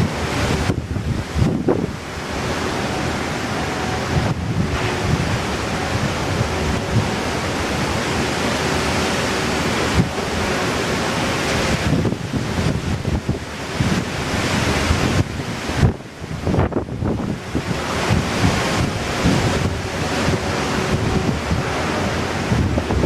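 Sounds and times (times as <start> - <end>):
gusty wind on microphone: 0.0 - 23.0.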